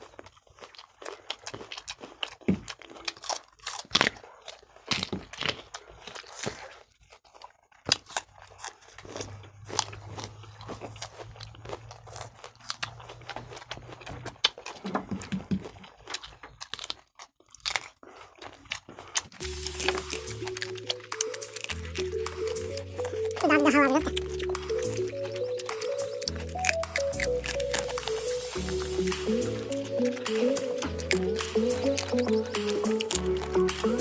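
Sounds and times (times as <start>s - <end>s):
crisp crunching of fruit: 0.0s - 34.0s.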